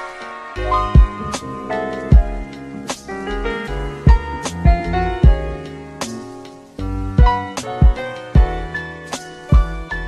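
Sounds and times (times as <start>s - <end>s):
gentle instrumental music: 0.0s - 10.0s
deep low beat: 0.6s - 8.8s, 9.5s - 10.0s.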